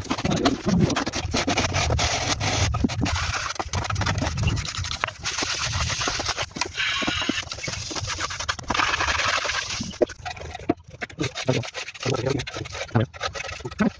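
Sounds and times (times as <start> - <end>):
trowel scraping wet plaster: 0.0 - 13.9.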